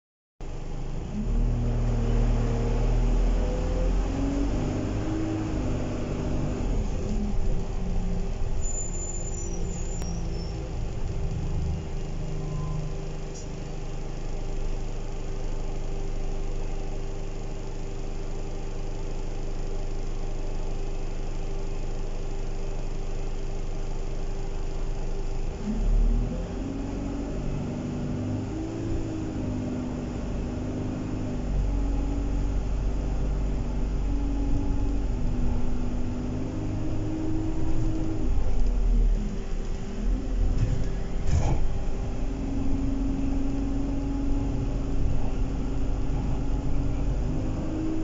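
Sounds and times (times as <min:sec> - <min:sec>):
bus diesel engine: 0:00.4 - 0:48.0.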